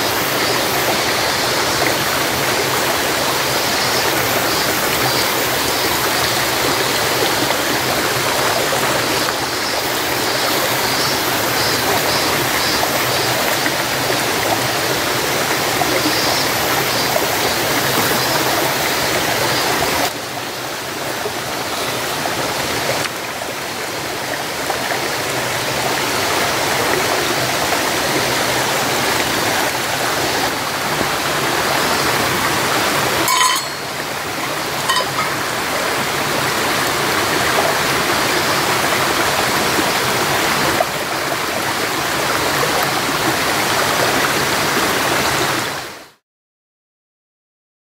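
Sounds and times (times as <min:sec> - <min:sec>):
stream rushing over rocks: 0:00.0 - 0:46.2.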